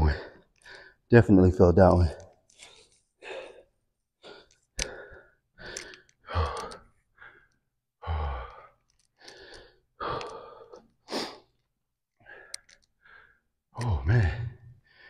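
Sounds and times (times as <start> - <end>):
man breathing hard: 0.0 - 1.1, 2.6 - 11.5, 12.2 - 15.0.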